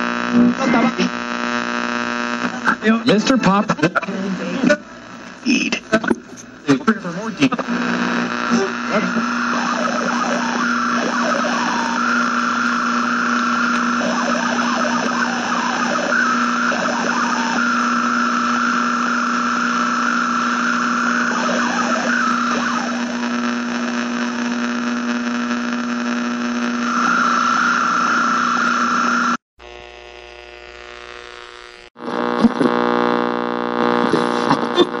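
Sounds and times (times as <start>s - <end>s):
buzzing crackly radio noise: 0.0s - 35.0s
radio static hiss: 0.0s - 35.0s.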